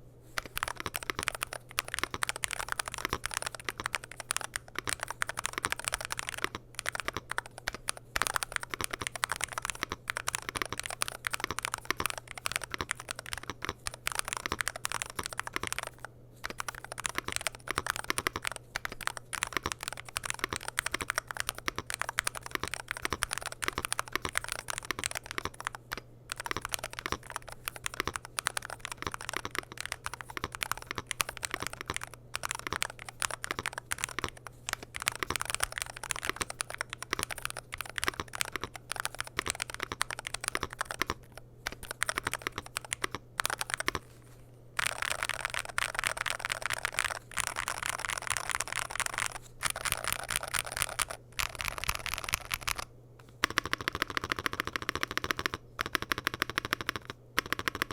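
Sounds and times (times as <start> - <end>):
faint steady hum: 0.0 - 57.9
mechanical keyboard typing: 0.4 - 44.2, 44.8 - 57.9.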